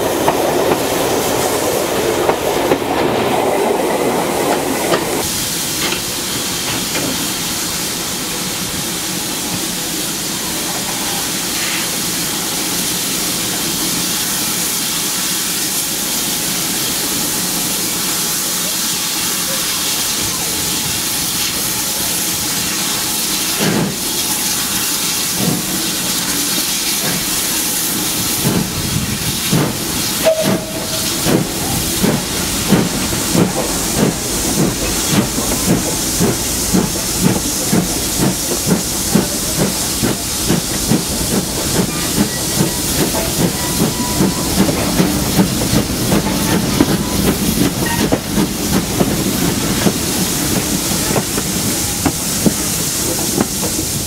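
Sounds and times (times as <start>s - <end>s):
steam hissing: 0.0s - 54.0s
steam locomotive exhaust beats: 0.0s - 54.0s.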